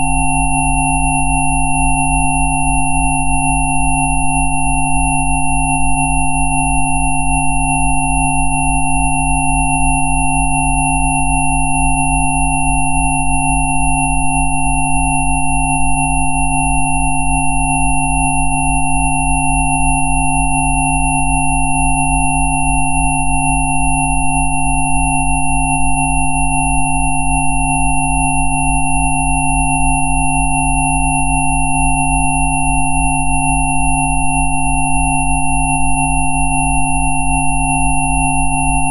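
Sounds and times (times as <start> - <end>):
high sine whistle: 0.0 - 38.9
mid sine tone: 0.0 - 38.9.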